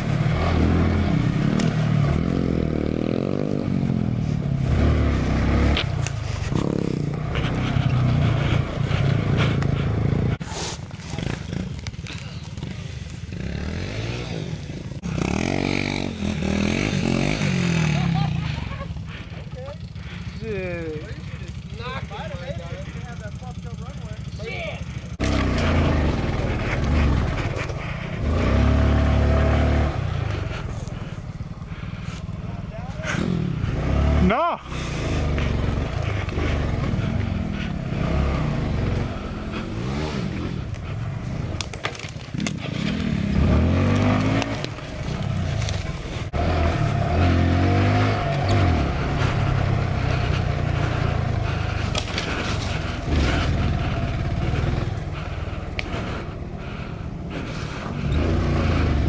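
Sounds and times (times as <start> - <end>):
motorcycle engine revving: 0.0 - 59.0
bike rattling and clattering: 5.0 - 33.8, 34.7 - 59.0.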